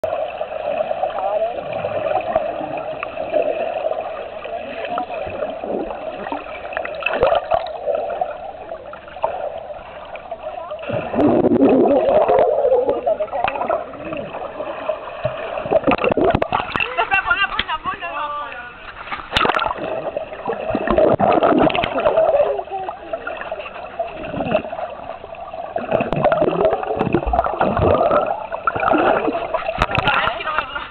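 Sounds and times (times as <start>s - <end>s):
underwater water and air bubbles: 0.0s - 30.9s.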